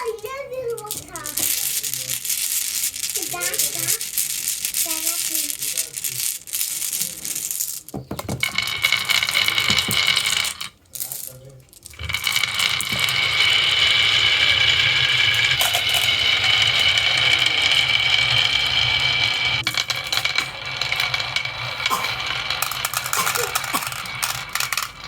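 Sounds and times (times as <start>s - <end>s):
toy vehicles clattering on wooden track: 0.0s - 25.0s.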